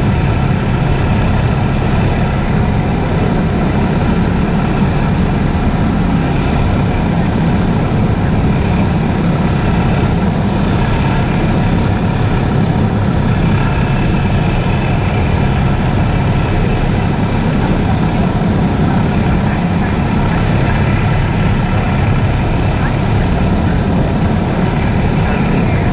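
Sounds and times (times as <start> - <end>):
propeller plane engine drone: 0.0 - 25.9
rushing air: 0.0 - 25.9.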